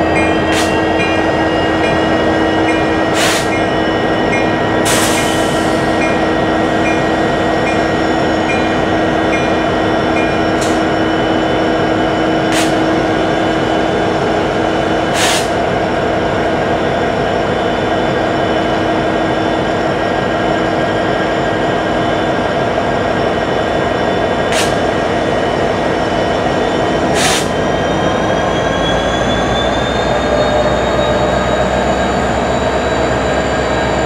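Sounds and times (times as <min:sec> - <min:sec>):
diesel locomotives running: 0:00.0 - 0:34.0.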